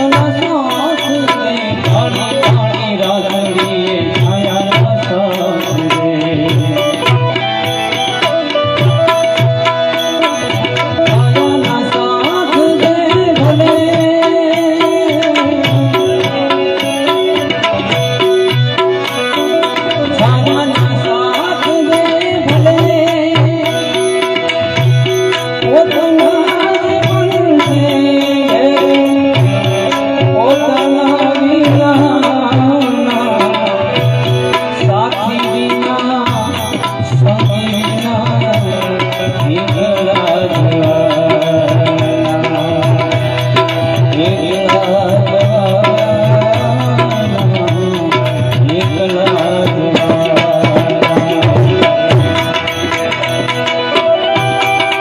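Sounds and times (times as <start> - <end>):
sustained melody line: 0.0 - 55.0
tabla rhythm: 0.0 - 55.0.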